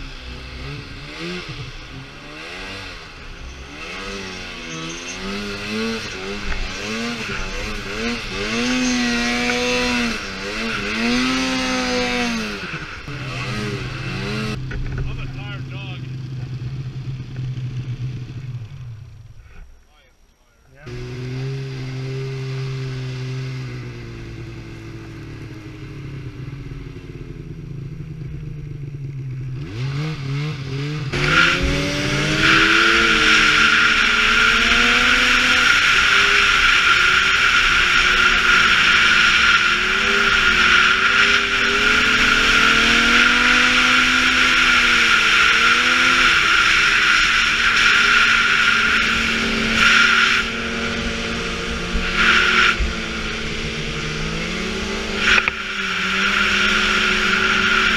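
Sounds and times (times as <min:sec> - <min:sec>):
snowmobile engines: 0:00.0 - 0:57.9.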